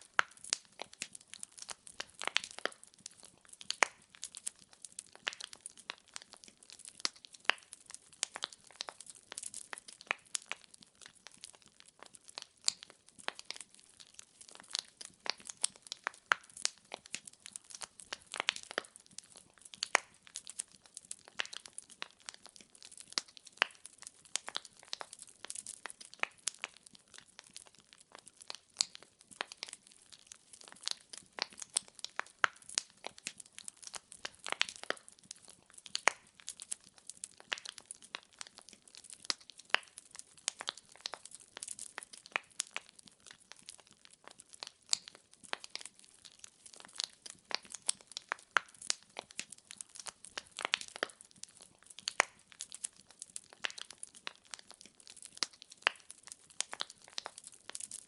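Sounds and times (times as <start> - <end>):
burning logs popping: 0.0 - 58.0
wood fire crackling: 0.0 - 58.0.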